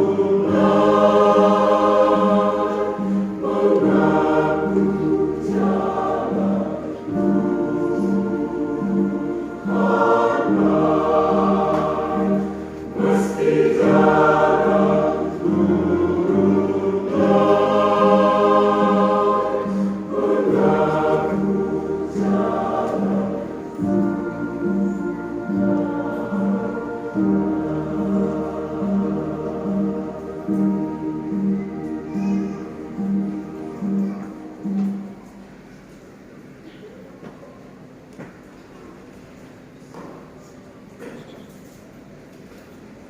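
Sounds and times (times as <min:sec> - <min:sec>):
choir singing in parts: 0:00.0 - 0:35.4.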